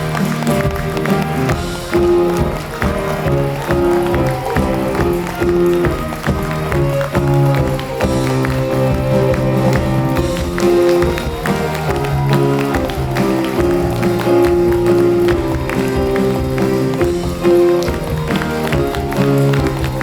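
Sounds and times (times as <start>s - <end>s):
live band music with steady beat: 0.0s - 20.0s.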